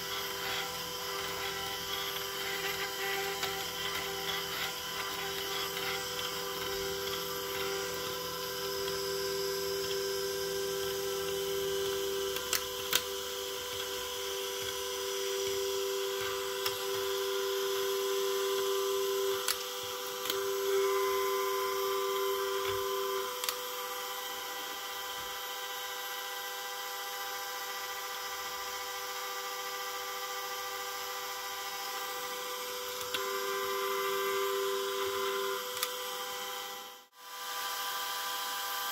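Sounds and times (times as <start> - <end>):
gyro electrical whine: 0.0 - 38.9.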